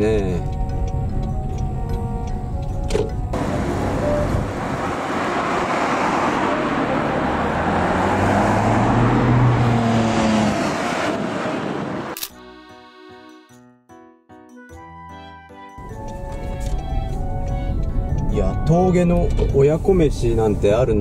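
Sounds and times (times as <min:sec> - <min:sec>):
car engine hum: 0:00.0 - 0:12.2, 0:15.8 - 0:21.0
cars passing on street: 0:00.0 - 0:12.3, 0:15.8 - 0:21.0.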